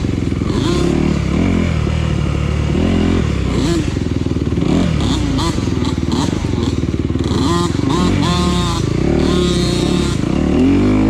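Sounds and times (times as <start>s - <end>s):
dirt bike engine idling: 0.0s - 11.0s
engine throttle blips: 0.0s - 11.0s.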